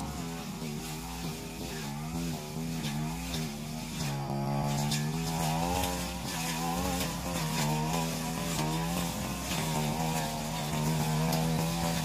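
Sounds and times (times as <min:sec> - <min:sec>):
brush cutter engine running: 0:00.0 - 0:12.0
cutting head hissing on vegetation: 0:00.0 - 0:12.0.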